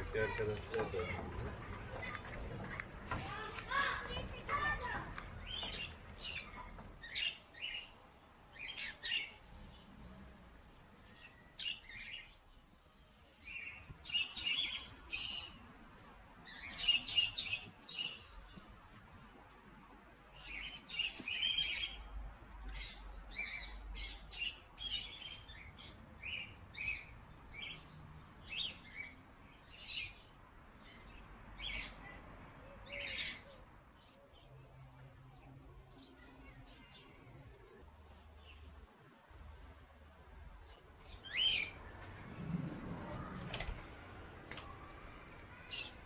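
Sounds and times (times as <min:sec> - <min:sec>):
small birds chirping: 0:00.0 - 0:10.4, 0:11.0 - 0:19.0, 0:20.3 - 0:46.0.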